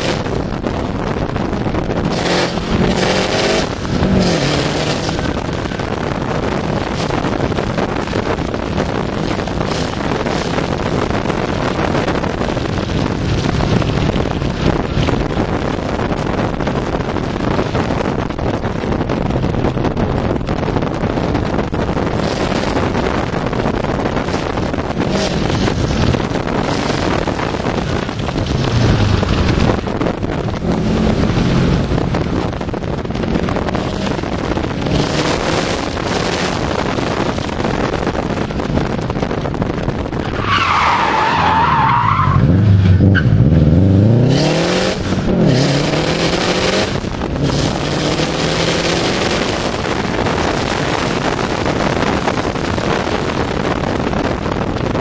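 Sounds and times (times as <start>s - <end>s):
car engine running hard: 0.0s - 55.0s
road noise: 0.0s - 55.0s
wind rushing over microphone: 0.0s - 55.0s.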